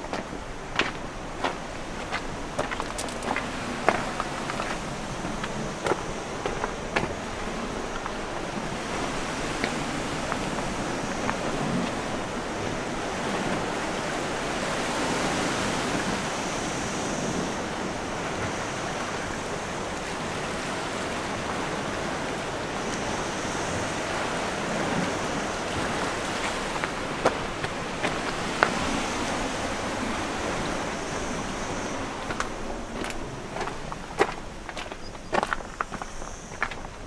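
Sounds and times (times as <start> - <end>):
sea waves washing ashore: 0.0 - 37.0.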